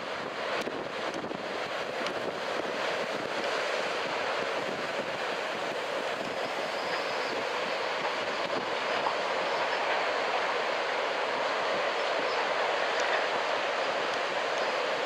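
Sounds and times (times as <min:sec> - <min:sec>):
strong wind: 0:00.0 - 0:15.0
surf breaking on a beach: 0:00.0 - 0:15.0.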